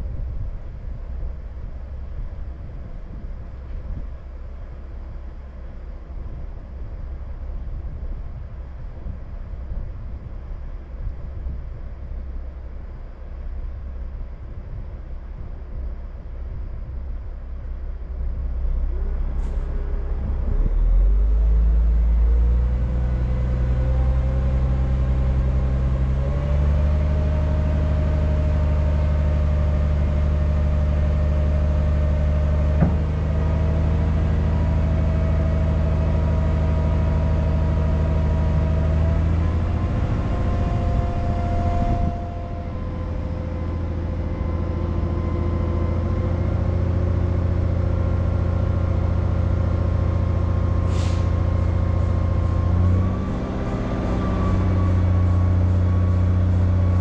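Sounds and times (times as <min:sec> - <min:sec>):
diesel truck engine: 0:00.0 - 0:57.0.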